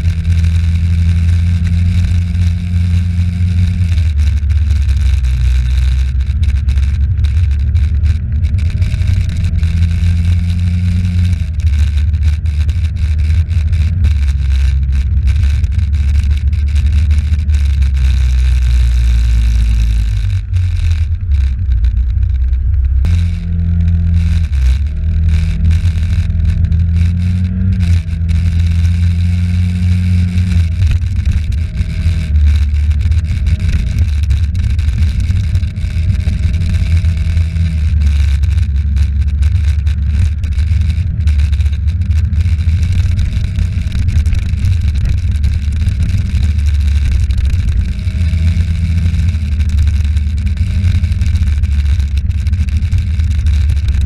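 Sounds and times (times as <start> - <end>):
road and wind noise: 0.0 - 54.0
vehicle engine drone: 0.0 - 54.0.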